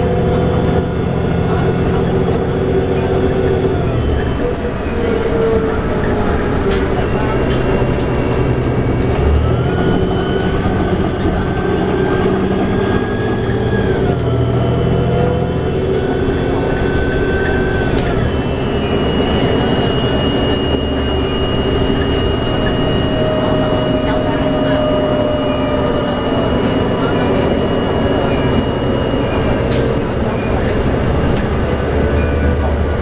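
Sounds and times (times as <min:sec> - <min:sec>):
bus engine running: 0:00.0 - 0:33.0
road and tyre noise: 0:00.0 - 0:33.0
whining tone: 0:00.0 - 0:33.0
steady high whine: 0:05.8 - 0:33.0.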